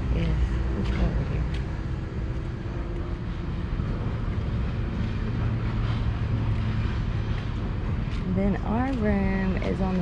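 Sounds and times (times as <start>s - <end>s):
low mechanical hum: 0.0s - 10.0s
wind on microphone: 0.0s - 10.0s.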